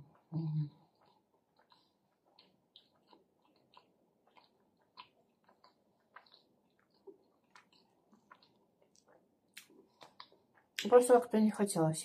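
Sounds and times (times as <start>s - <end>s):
person chewing: 0.0s - 10.8s.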